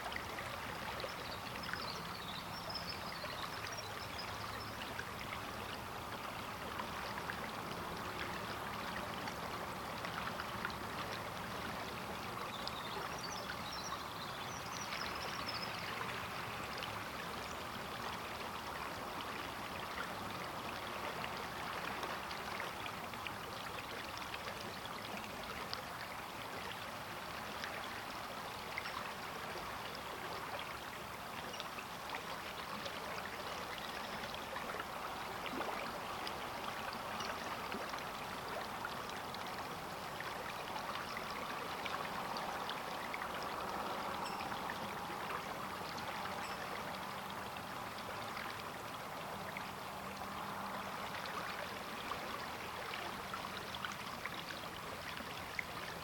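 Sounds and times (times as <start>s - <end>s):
river flowing over riffles: 0.0s - 56.0s.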